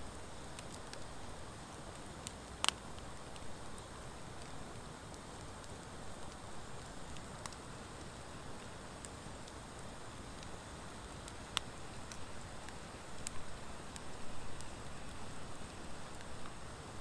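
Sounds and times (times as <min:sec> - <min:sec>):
campfire crackling and hissing: 0:00.0 - 0:17.0.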